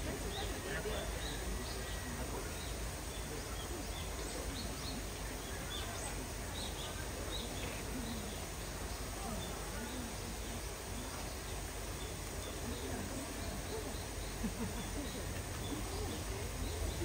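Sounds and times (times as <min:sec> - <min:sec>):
distant voices: 0:00.0 - 0:17.0
small birds chirping: 0:00.0 - 0:17.0.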